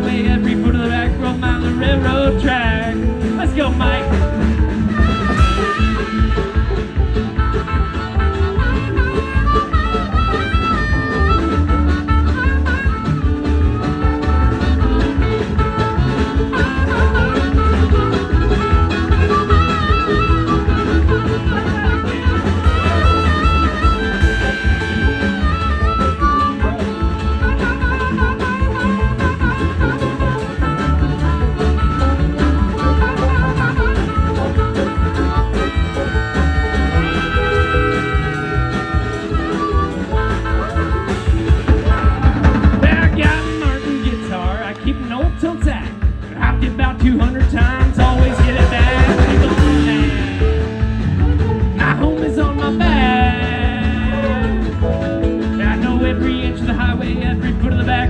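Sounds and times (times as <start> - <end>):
lead instrument bending notes: 0.0 - 58.0
live string band playing: 0.0 - 58.0
pulsing bass: 0.0 - 58.0
rhythm guitar: 0.0 - 58.0.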